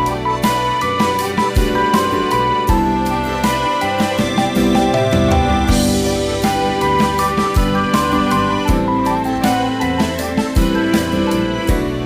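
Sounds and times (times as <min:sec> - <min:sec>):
gentle piano instrumental music: 0:00.0 - 0:12.0.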